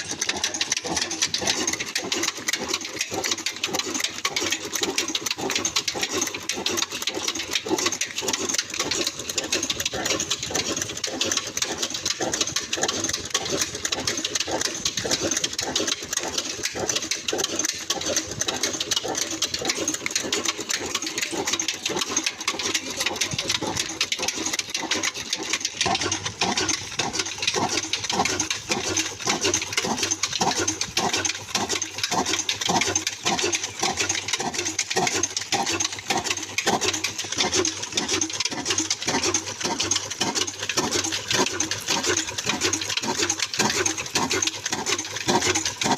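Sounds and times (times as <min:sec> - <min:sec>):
diesel engine rhythmic beat: 0:00.0 - 0:45.9.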